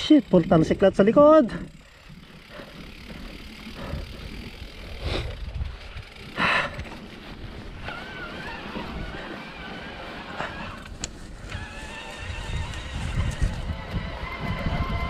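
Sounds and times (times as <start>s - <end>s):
bike tyres rumbling: 0.0s - 15.0s
wind buffeting microphone: 2.1s - 15.0s.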